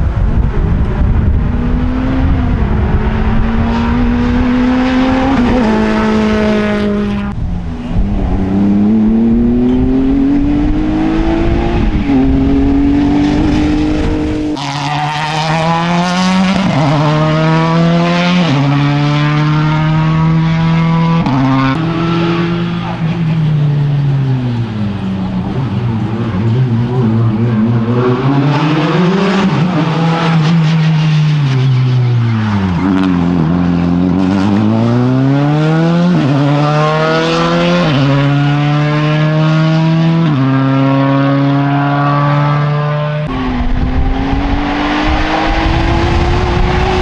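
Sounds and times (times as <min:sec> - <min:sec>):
rally car engine accelerating: 0:00.0 - 0:47.0.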